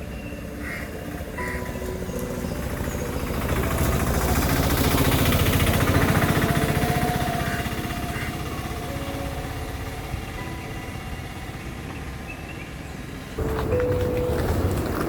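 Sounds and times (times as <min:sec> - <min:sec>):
vehicle engine passing by: 0:00.6 - 0:15.0.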